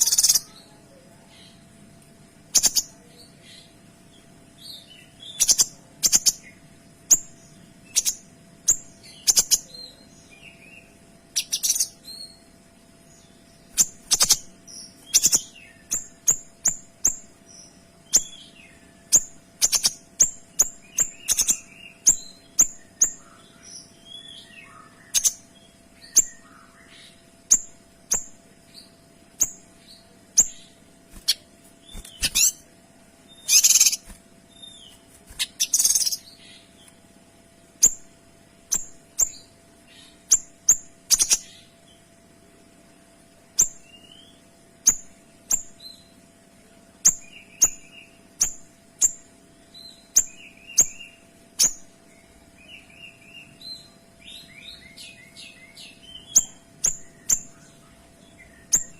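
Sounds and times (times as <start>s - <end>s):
songbird calling: 0.0s - 1.6s, 4.6s - 12.4s, 13.1s - 32.7s, 33.3s - 36.9s, 38.7s - 42.0s, 47.0s - 58.9s.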